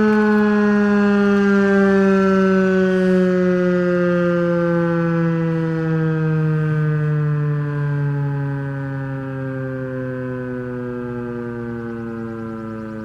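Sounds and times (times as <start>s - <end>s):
warning siren winding down: 0.0s - 13.0s.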